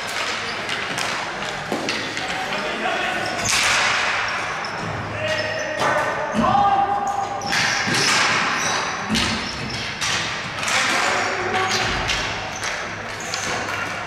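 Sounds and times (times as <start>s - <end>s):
sticks striking ball in echoing hall: 0.0s - 14.0s.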